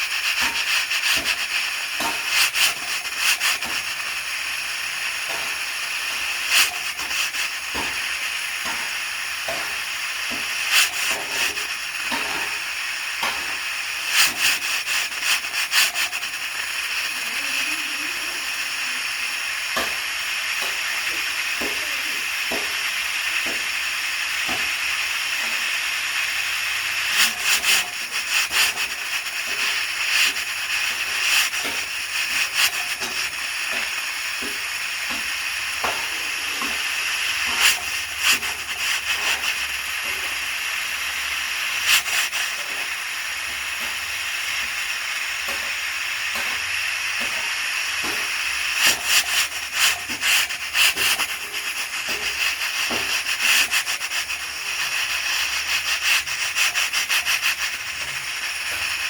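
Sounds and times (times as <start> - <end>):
pressure cooker hissing: 0.0 - 59.0
sharp steam spurts: 0.0 - 59.0.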